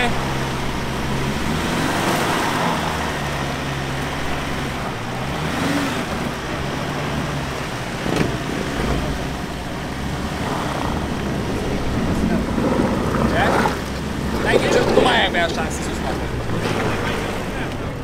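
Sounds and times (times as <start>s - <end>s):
pickup engine under load: 0.0s - 18.0s.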